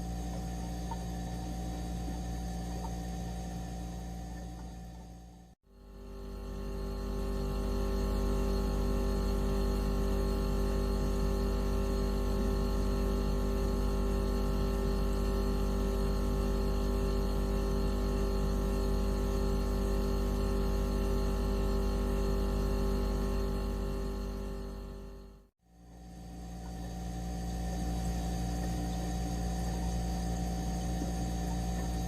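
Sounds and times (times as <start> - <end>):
steady electronic hum: 0.0 - 32.0.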